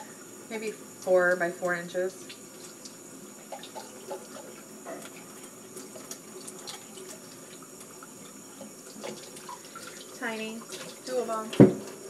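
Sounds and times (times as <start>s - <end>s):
water running from tap into sink: 0.0s - 12.0s.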